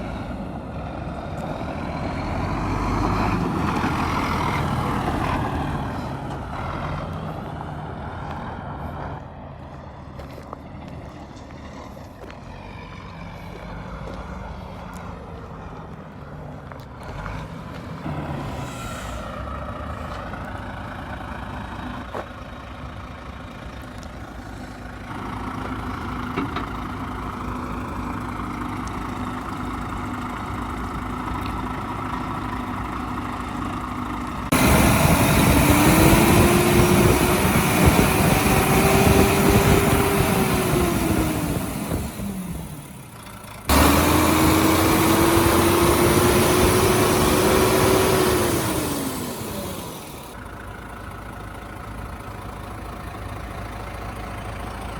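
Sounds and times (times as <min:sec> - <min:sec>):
truck diesel engine running: 0:00.0 - 0:54.9.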